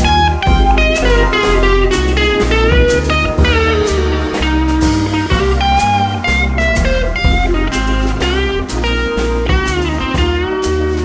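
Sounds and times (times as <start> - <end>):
bass and drum beat: 0.0 - 11.0
blues guitar melody: 0.0 - 11.0.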